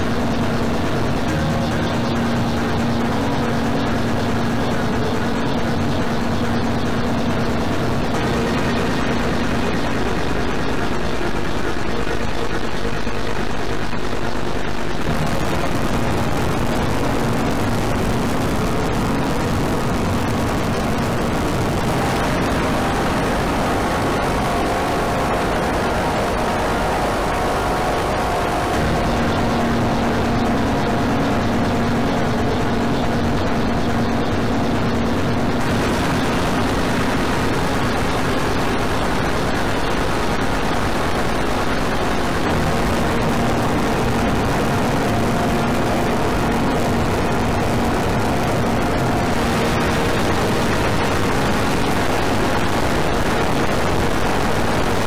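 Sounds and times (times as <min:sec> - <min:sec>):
distorted electronic noise drone: 0:00.0 - 0:55.0.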